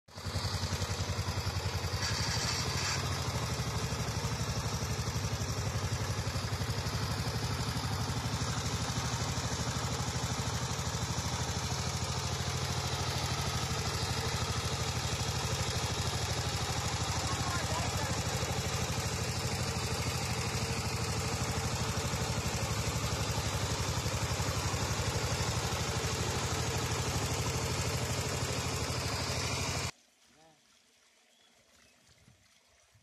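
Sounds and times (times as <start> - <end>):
diesel engine chugging: 0.1 - 29.9.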